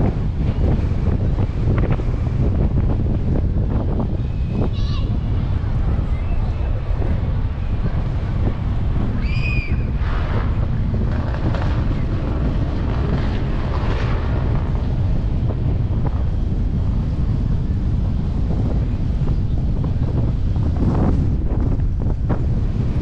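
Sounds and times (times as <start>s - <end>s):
wind buffeting the microphone: 0.0s - 23.0s.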